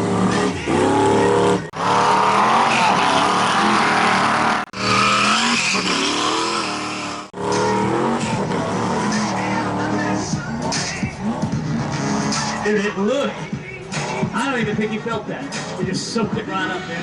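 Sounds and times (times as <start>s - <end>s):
truck engine revving high: 0.0s - 14.4s.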